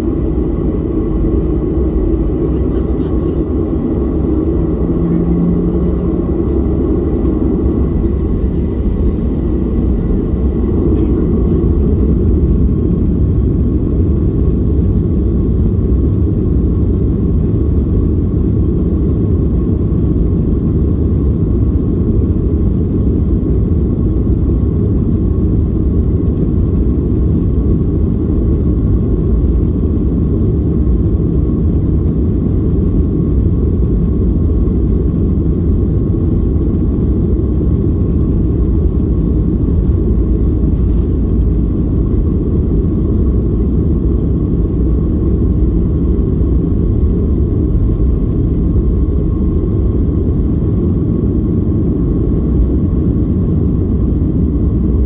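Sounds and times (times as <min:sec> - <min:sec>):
faint engine whine: 0:00.0 - 0:55.0
jet engine low rumble: 0:00.0 - 0:55.0.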